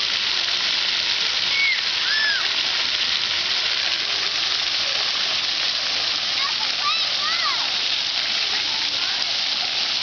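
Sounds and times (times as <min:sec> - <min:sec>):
fountain jets spraying water: 0:00.0 - 0:10.0.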